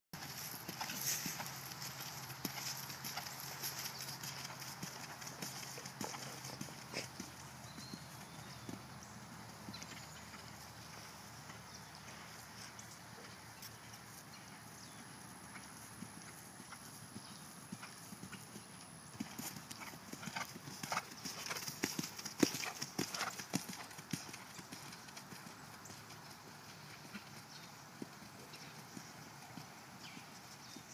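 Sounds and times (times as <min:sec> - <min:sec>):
horse trotting on grass: 0:00.2 - 0:30.9.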